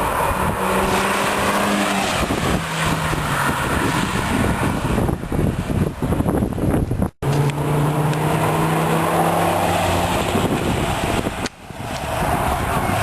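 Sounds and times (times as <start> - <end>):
race car engine passing: 0.0 - 5.9, 7.2 - 13.0
wind buffeting microphone: 0.0 - 13.0.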